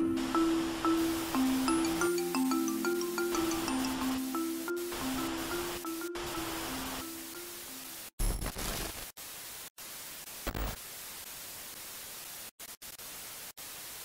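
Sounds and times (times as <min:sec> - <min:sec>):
static hiss: 0:00.0 - 0:14.0.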